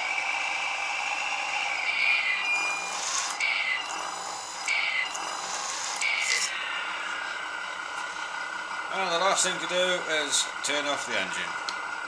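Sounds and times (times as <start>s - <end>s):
truck engine sound from small speaker: 0.0s - 12.0s.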